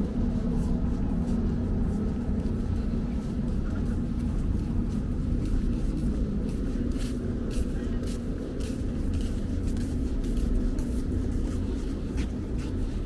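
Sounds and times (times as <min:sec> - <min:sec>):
rumble of motor vehicles: 0:00.0 - 0:13.0.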